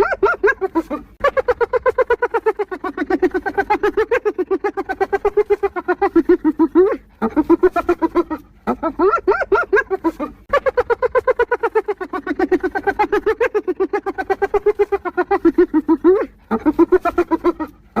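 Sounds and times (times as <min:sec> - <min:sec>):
hyenas giggling: 0:00.0 - 0:18.0.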